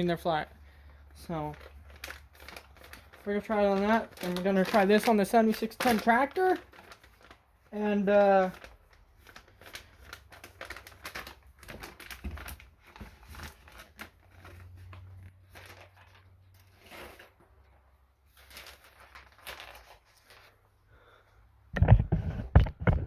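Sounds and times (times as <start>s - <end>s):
packaging clicks and rustles: 0.2s - 20.7s.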